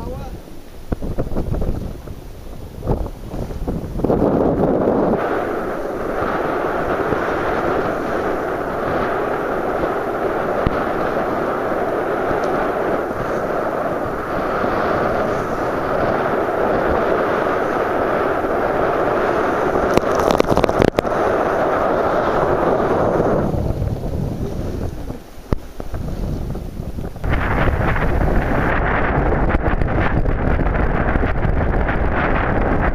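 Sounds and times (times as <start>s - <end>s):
sea rushing past hull: 0.0s - 32.9s
wind buffeting microphone: 0.0s - 32.9s.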